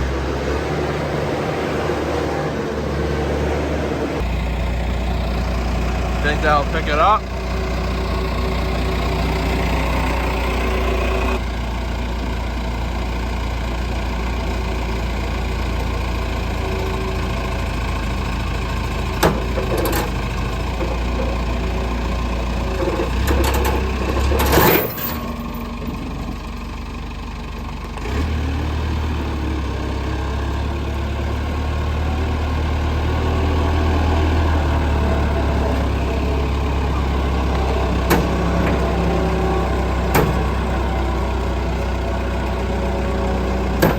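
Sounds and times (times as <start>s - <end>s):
heavy vehicle engine idling: 0.0s - 43.9s.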